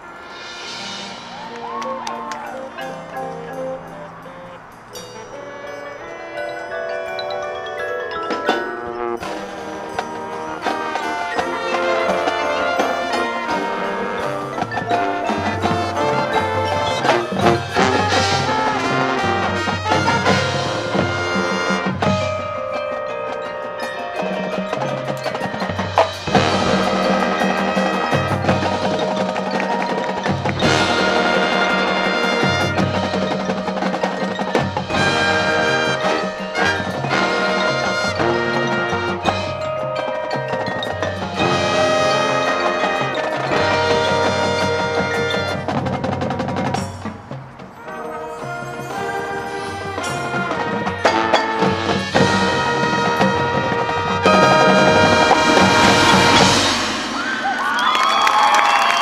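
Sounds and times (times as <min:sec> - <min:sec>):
marching band playing: 0:00.0 - 0:59.0
mallet percussion and chimes: 0:00.3 - 0:59.0.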